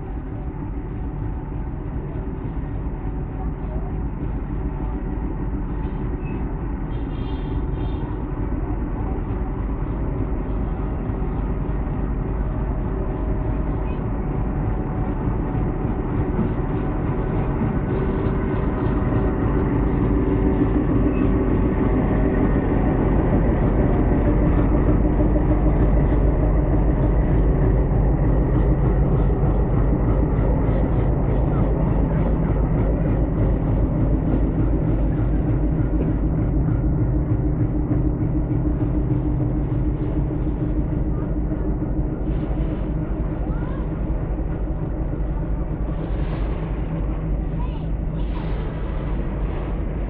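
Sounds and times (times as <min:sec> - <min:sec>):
diesel locomotive engine running: 0:00.0 - 0:50.0.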